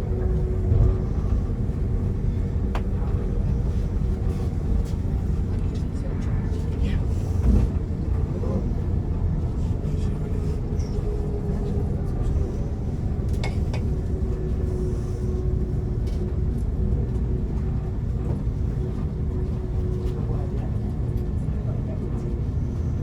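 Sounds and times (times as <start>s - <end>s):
train rumbling from inside carriage: 0.0s - 23.0s.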